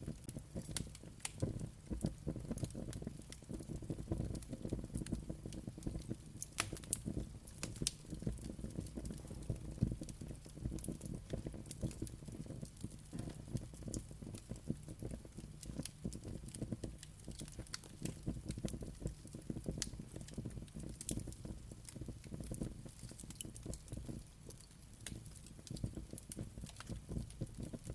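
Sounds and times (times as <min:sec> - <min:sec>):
wood fire crackling and popping: 0:00.0 - 0:27.9.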